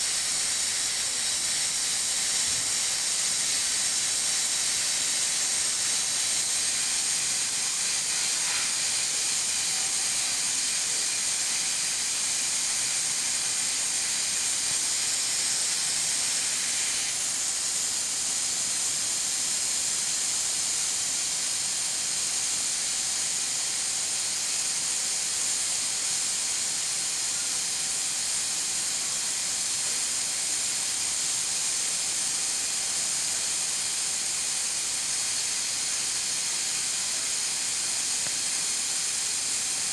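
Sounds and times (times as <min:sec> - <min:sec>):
pressure cooker venting steam: 0:00.0 - 0:39.9.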